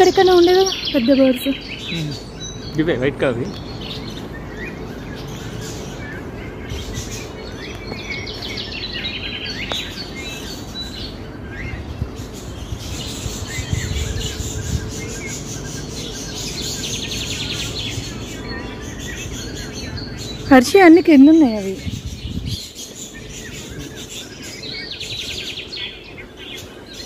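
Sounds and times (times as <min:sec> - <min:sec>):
birds chirping and trilling: 0:00.0 - 0:27.0
low background hum: 0:00.0 - 0:27.0.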